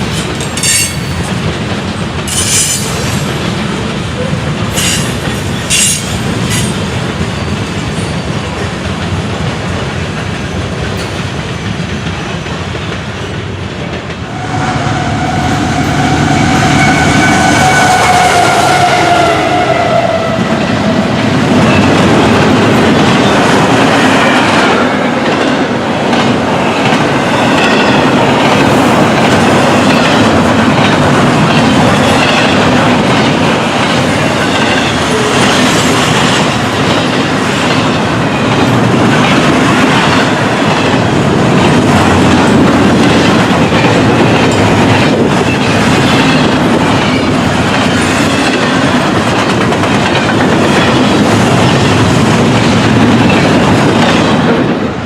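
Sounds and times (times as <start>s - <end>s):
train wheels clicking over rails: 0.0s - 19.7s, 20.4s - 55.0s.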